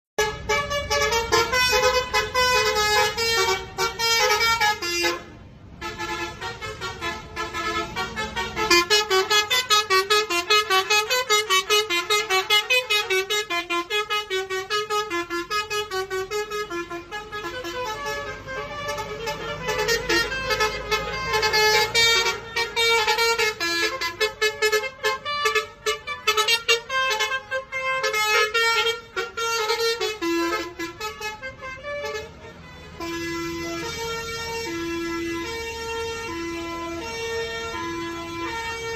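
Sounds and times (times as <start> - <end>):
multi-tone bus horn tune: 0.2 - 38.9.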